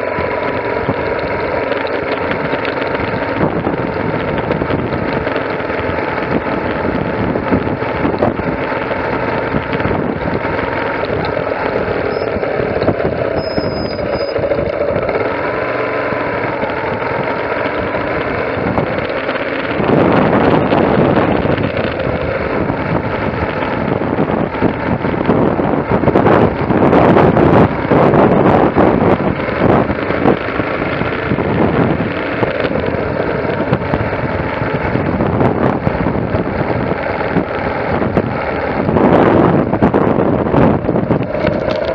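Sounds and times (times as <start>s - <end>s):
road and wind noise: 0.0s - 41.9s
vehicle engine running: 0.0s - 41.9s.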